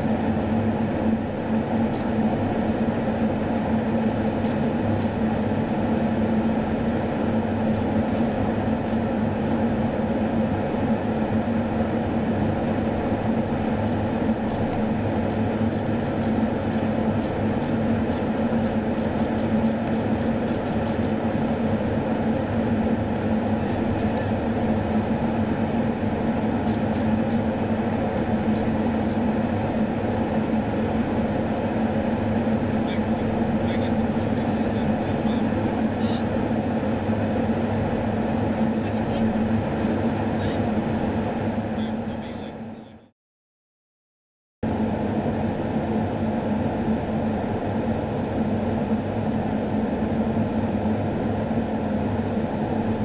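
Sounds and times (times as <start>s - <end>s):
aircraft engine drone: 0.0s - 43.1s, 44.6s - 53.0s.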